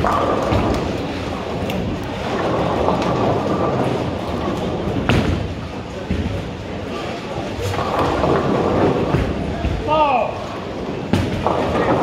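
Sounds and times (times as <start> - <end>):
bowling balls rolling: 0.0 - 12.0.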